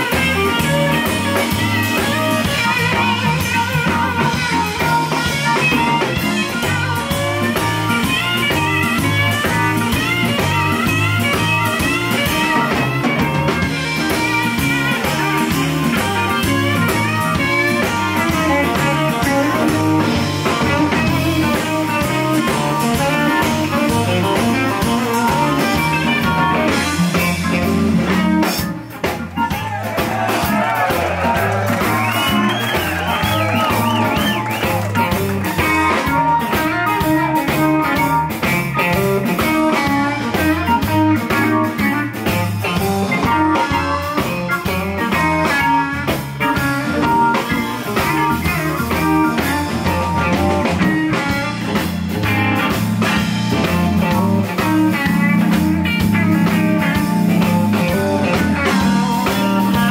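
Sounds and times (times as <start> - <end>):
blues band playing: 0.0 - 59.9
electric guitar bent notes: 0.0 - 59.9.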